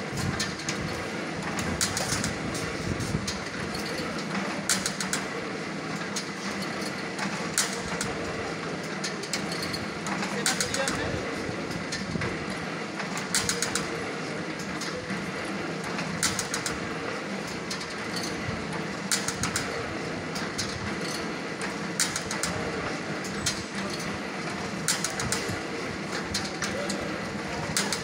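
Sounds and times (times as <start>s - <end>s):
clattering clicks of machinery: 0.0s - 28.0s.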